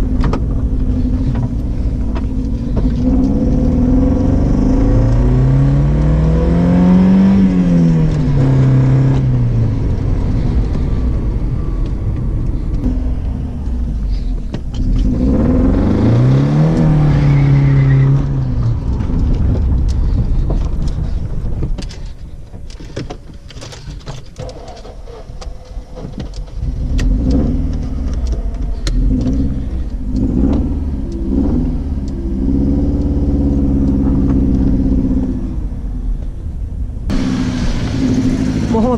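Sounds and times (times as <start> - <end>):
misfiring car engine revving: 0.0 - 11.8, 12.5 - 21.2, 26.6 - 35.7, 37.0 - 38.9.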